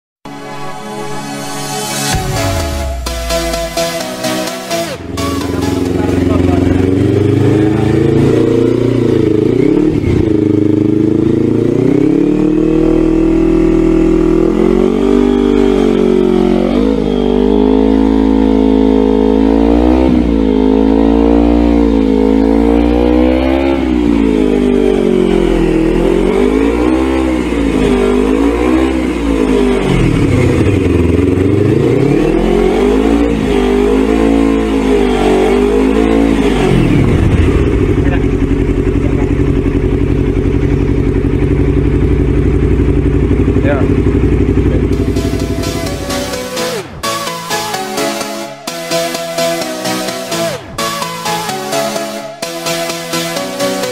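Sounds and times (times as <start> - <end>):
motorcycle engine revving: 1.4 - 53.9.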